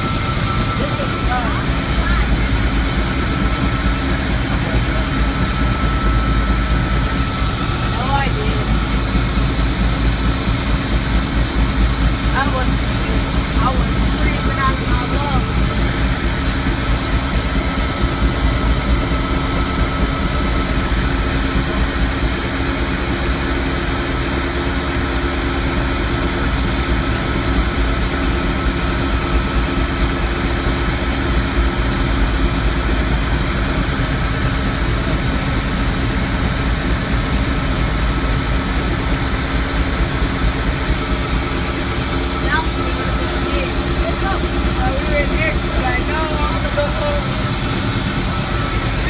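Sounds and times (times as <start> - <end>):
helicopter engine and rotor drone: 0.0 - 49.0.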